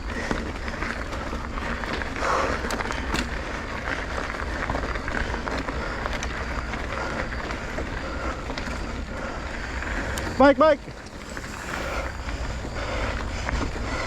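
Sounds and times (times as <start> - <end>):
bicycle road noise: 0.0 - 14.0
wind buffeting microphone: 0.0 - 14.0.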